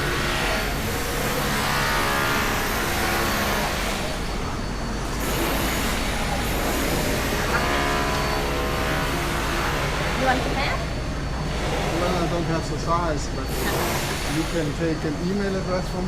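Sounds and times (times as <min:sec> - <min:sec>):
vehicles passing by: 0:00.0 - 0:15.6.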